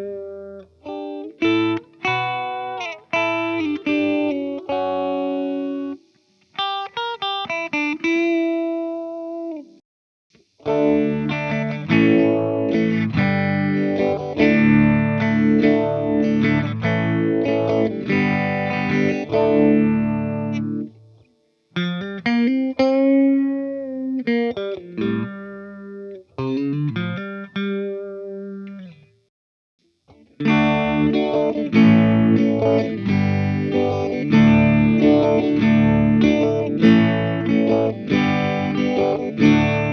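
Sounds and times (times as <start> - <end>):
electric guitar with phaser: 0.0 - 9.8, 10.6 - 29.3, 30.1 - 39.9.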